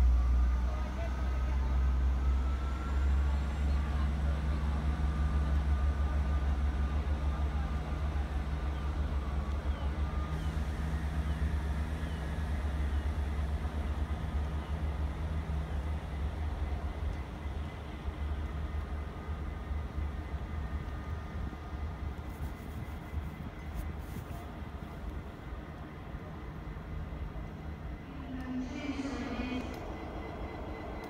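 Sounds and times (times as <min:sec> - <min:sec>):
faint engine whine: 0:00.0 - 0:31.0
train engine low rumble: 0:00.0 - 0:31.0.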